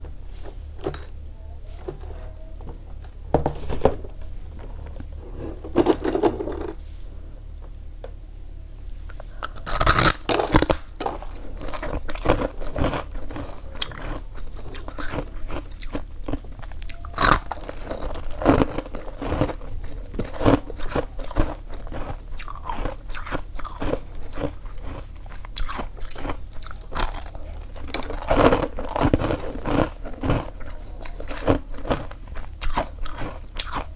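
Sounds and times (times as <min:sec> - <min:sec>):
crunchy chewing of frost: 0:00.0 - 0:07.7, 0:08.7 - 0:33.9.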